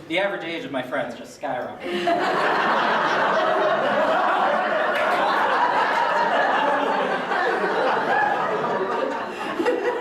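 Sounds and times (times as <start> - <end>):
roomful of people laughing: 1.8 - 10.0.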